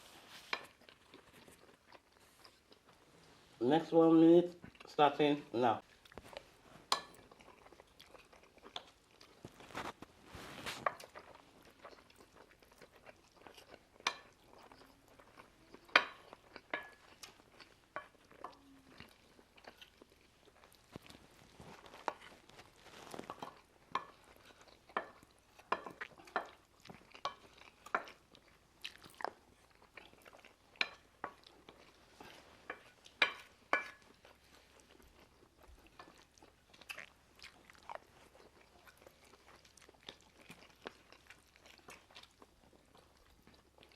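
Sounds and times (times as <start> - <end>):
chewing: 0.0 - 3.6, 4.5 - 5.0, 5.8 - 43.9.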